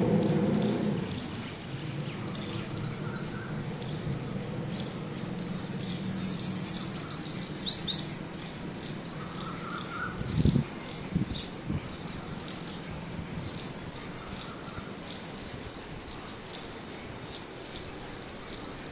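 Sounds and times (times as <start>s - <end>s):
low background hum: 0.0s - 18.9s
bird trilling chirps: 0.6s - 18.8s.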